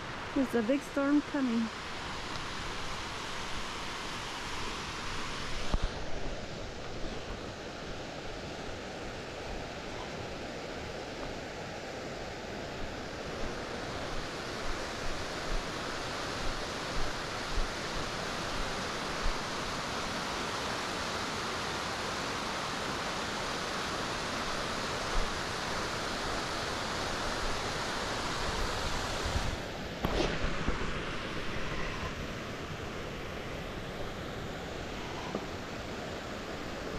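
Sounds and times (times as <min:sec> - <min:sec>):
waterfall rushing water: 0:00.0 - 0:36.9.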